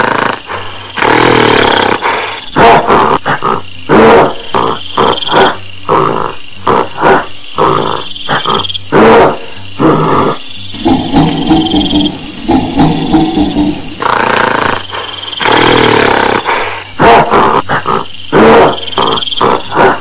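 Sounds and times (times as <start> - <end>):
gorilla roaring and grunting: 0.0 - 20.0.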